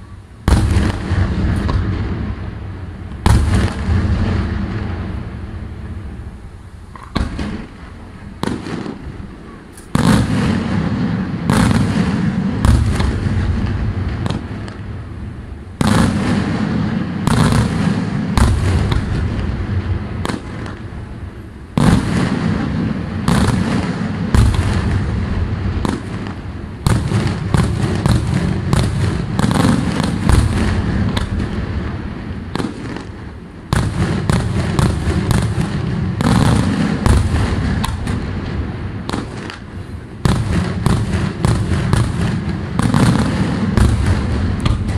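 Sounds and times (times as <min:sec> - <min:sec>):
fireworks bangs and cracks: 0:00.0 - 0:44.9.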